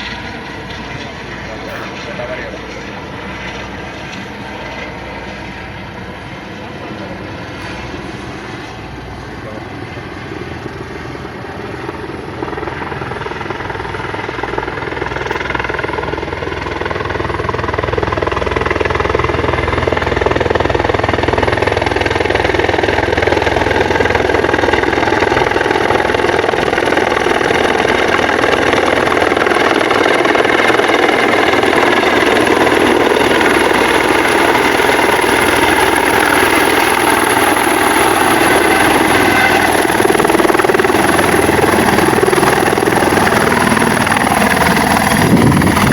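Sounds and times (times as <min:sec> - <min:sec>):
helicopter rotor and turbine: 0:00.0 - 0:45.9.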